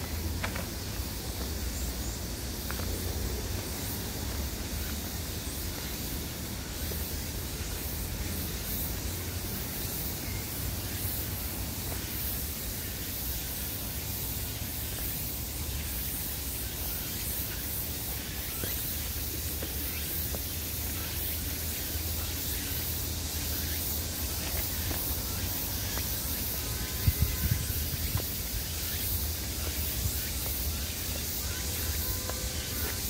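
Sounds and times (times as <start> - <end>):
wind hiss: 0.0 - 33.0.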